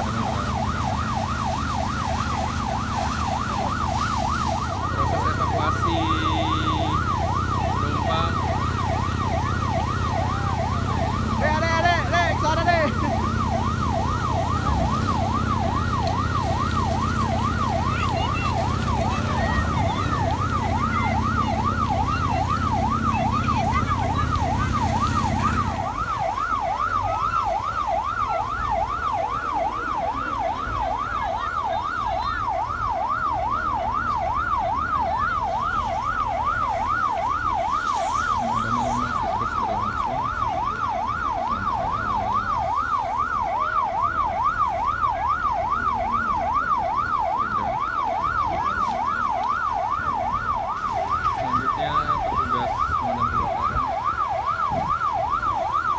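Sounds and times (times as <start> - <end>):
emergency siren wailing: 0.0 - 55.9
low engine rumble: 0.0 - 55.9.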